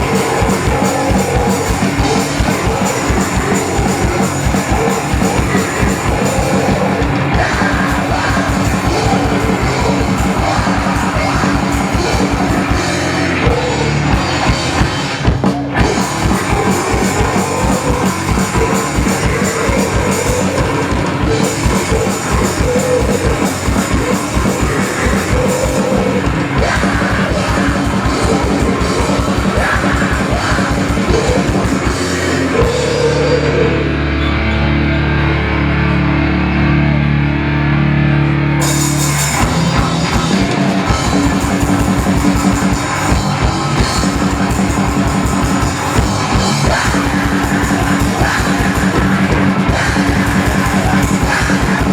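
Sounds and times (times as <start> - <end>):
fast drumming: 0.0 - 33.4, 38.6 - 51.9
distorted electric guitars: 0.0 - 51.9
rock band playing live: 0.0 - 51.9.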